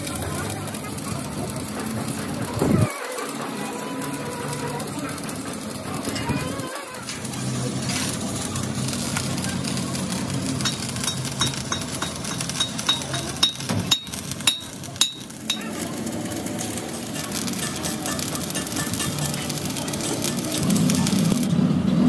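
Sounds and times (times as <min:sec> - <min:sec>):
welding arc crackle: 0:00.0 - 0:21.6.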